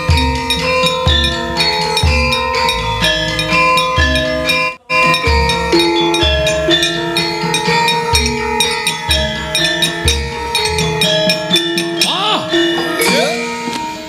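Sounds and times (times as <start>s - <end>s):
gong-chime and metallophone notes: 0.0s - 14.0s.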